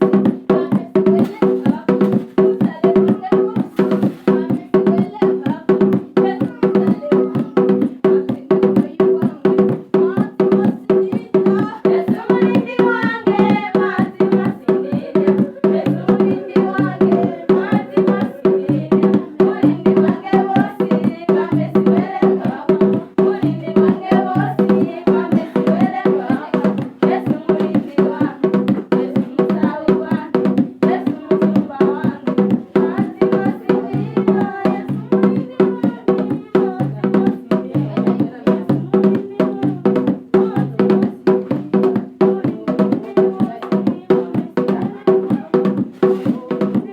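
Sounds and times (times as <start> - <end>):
fast clicking percussion beat: 0.0 - 46.9
voices singing gospel: 0.0 - 46.9.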